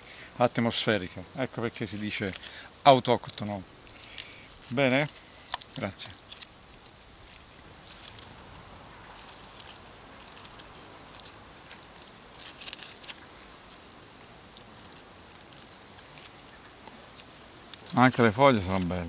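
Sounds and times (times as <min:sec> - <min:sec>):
leaves rustling and crackling: 0:00.0 - 0:19.0.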